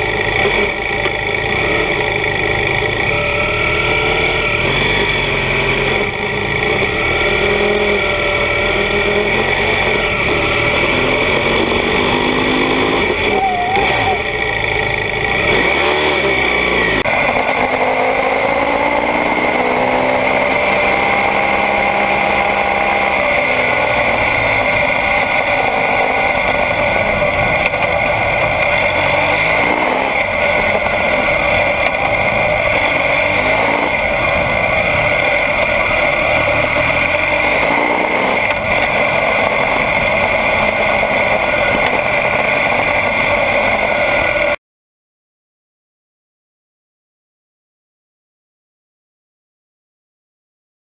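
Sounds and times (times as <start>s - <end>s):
motorcycle engine running: 0.0s - 44.6s
road noise: 0.0s - 44.6s.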